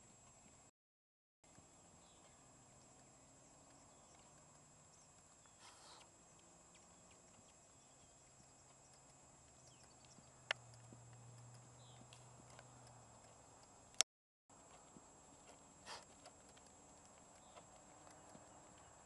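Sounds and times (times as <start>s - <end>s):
horse trotting on sand: 1.5s - 13.8s, 14.5s - 19.0s.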